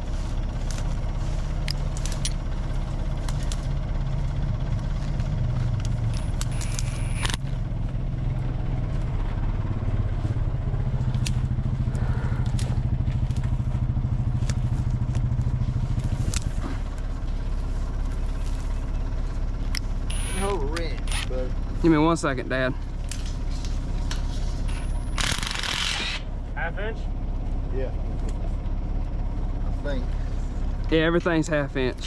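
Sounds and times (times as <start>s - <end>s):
backhoe engine running: 0.0s - 32.0s.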